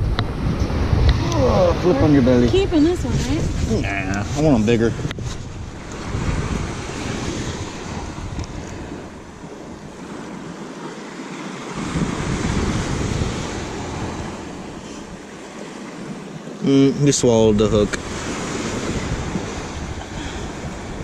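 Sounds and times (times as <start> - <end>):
ocean surf: 0.0 - 21.0
wind buffeting microphone: 0.0 - 21.0.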